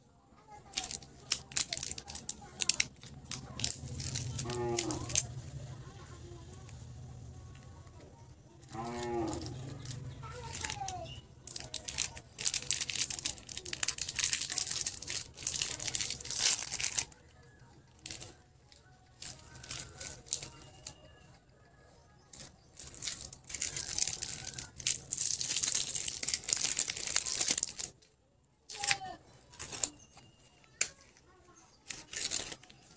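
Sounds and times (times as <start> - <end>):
foil wrapper crinkling and tearing: 0.4 - 6.1, 8.6 - 21.2, 21.9 - 28.1, 28.7 - 32.9
plastic wrapper crinkling and tearing: 0.4 - 6.2, 7.5 - 32.9.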